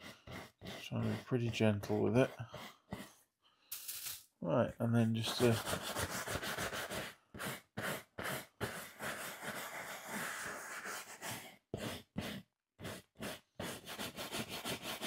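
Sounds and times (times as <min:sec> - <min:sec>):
pad rubbing on leather: 0:00.0 - 0:03.2, 0:05.2 - 0:15.0.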